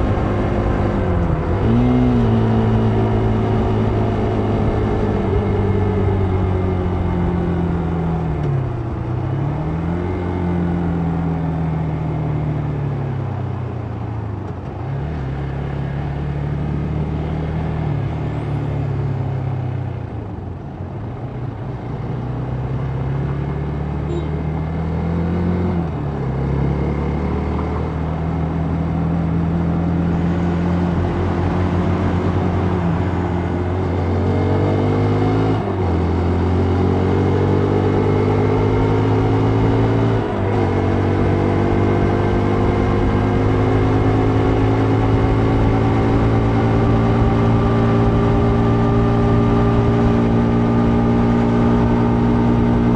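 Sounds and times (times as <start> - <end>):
vehicle engine accelerating: 0.0 - 20.5, 21.2 - 52.9
wind and road noise: 0.0 - 52.9.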